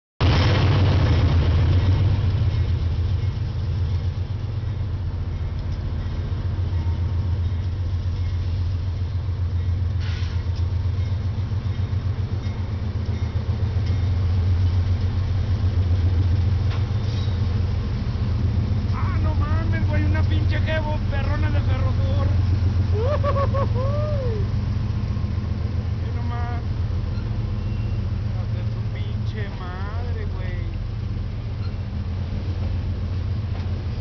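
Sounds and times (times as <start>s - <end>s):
diesel locomotive engine rumble: 0.2s - 34.0s.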